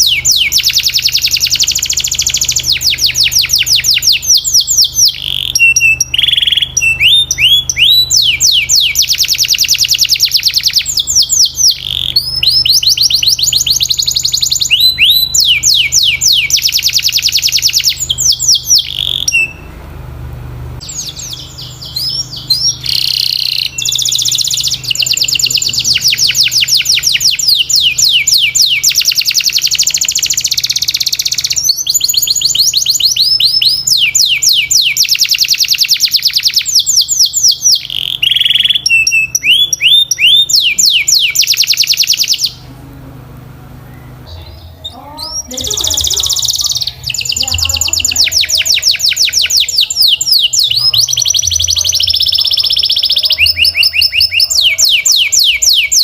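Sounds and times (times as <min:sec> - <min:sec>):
canary singing trills: 0:00.0 - 0:19.8, 0:20.8 - 0:56.0.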